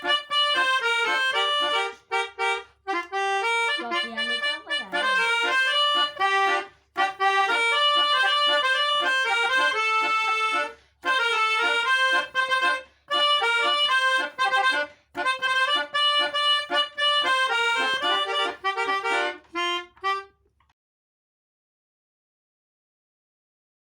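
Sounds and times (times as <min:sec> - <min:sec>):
melody horn playing dance tune: 0:00.0 - 0:20.3.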